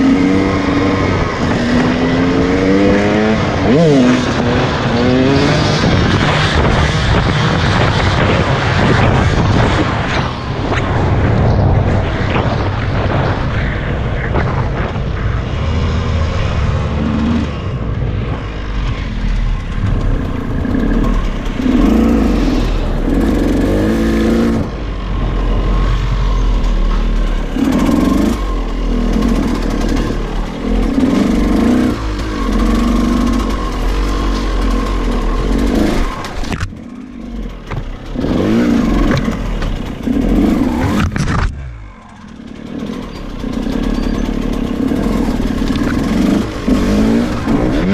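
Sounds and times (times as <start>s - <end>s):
two-stroke motorcycle engine revving: 0.0s - 10.3s, 14.7s - 47.9s.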